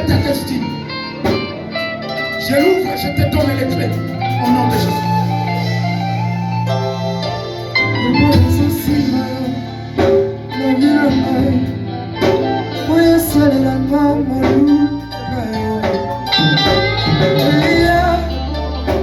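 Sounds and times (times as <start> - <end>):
guitar: 0.0 - 19.0
held keyboard notes: 0.0 - 19.0
person singing: 2.5 - 19.0.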